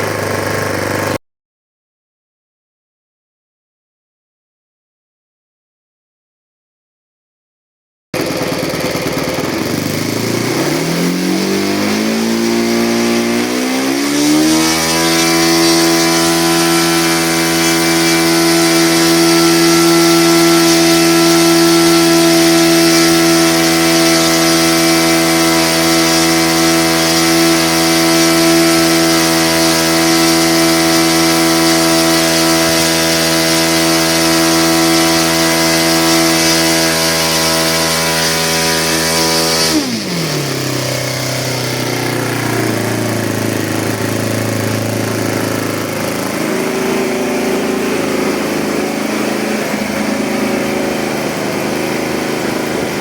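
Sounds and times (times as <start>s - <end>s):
model engine turning propeller: 8.2s - 53.0s.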